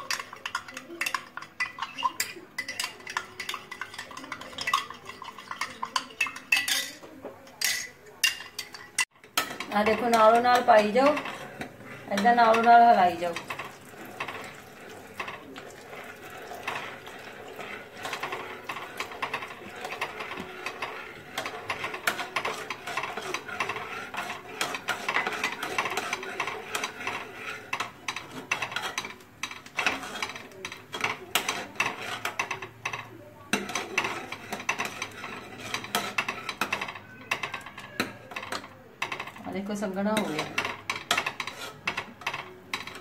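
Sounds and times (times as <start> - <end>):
metal ladle scraping a metal pot: 0.0 - 7.0, 7.6 - 43.0.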